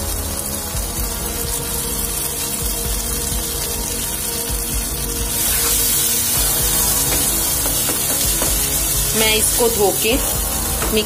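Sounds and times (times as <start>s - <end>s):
background music: 0.0s - 11.0s
spices sizzling in a pan: 0.0s - 11.0s.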